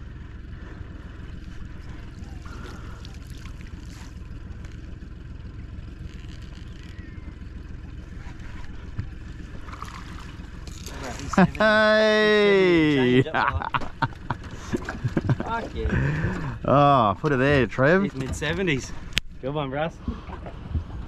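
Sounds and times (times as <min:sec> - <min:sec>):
low rumble in boat: 0:00.0 - 0:21.0.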